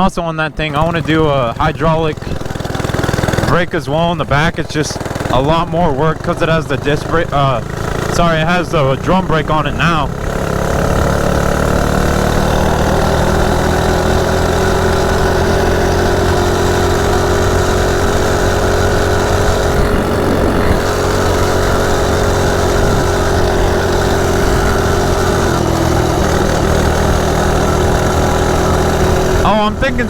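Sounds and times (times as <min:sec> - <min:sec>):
small engine running steadily: 0:00.0 - 0:30.0.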